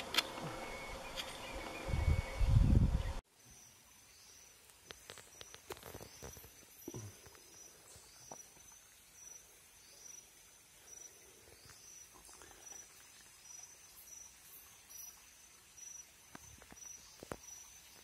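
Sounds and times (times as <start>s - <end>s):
insect chirping: 3.4s - 18.0s.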